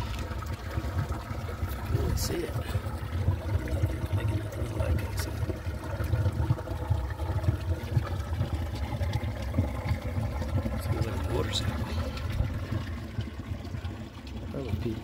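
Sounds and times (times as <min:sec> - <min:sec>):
water rushing under rocks: 0:00.0 - 0:15.0.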